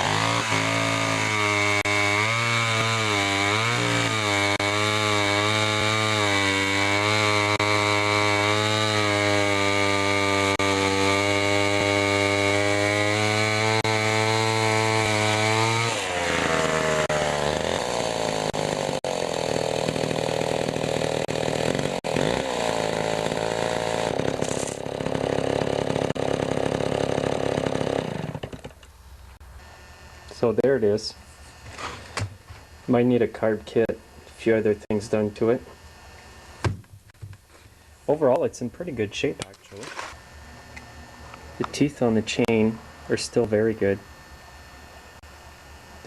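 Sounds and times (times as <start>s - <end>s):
chainsaw engine running: 0.0s - 36.8s, 39.3s - 46.0s.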